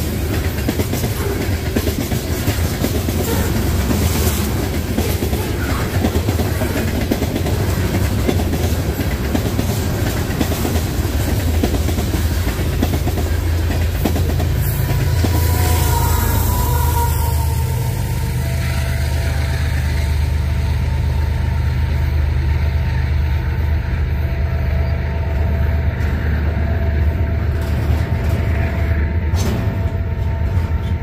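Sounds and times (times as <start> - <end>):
wheels clacking over rail joints: 0.0 - 20.9, 25.3 - 31.0
freight cars rumbling past: 0.0 - 31.0.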